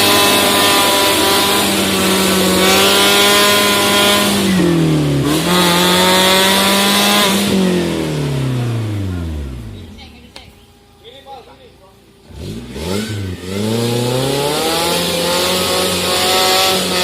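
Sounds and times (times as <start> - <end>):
car engine at high revs: 0.0 - 10.0, 12.0 - 17.0.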